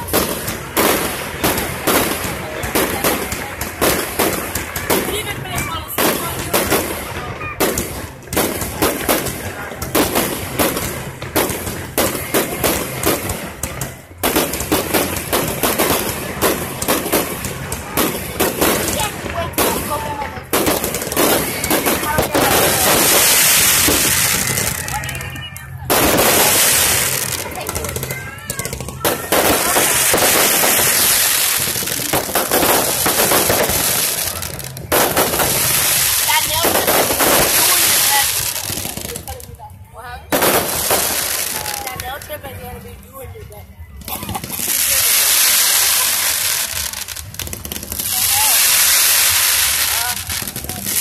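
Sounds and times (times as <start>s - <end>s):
fireworks bangs: 0.0s - 42.4s, 43.9s - 51.0s.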